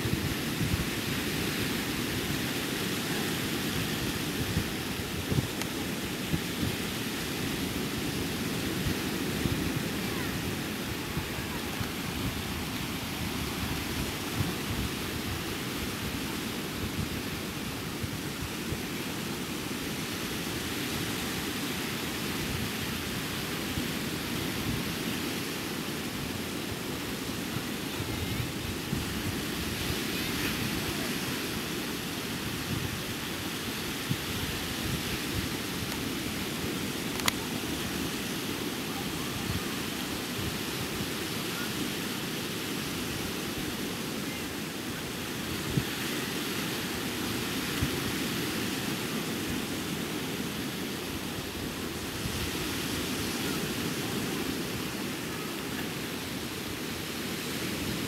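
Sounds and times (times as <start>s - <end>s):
ocean surf breaking: 0.0s - 58.0s
wind rumbling on microphone: 0.0s - 58.0s.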